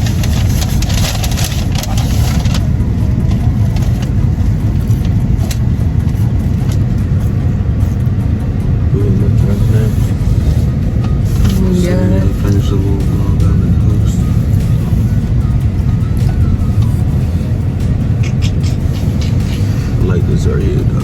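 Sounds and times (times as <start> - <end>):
car driving rumble from inside: 0.0 - 21.0.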